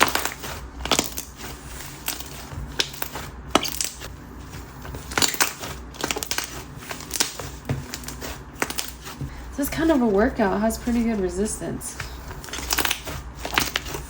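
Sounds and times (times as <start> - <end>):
hands kneading clay slime: 0.0 - 14.0.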